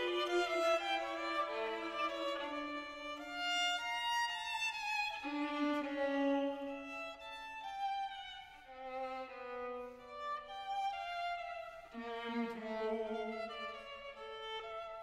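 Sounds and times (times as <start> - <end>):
slow violin melody: 0.0 - 15.0.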